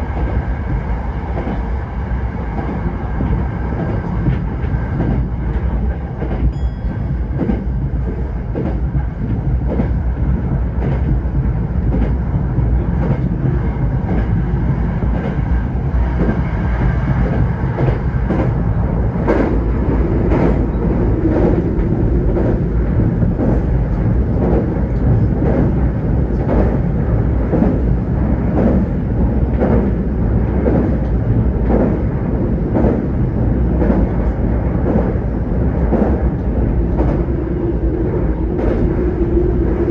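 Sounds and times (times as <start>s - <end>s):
train rolling rumble: 0.0s - 39.9s.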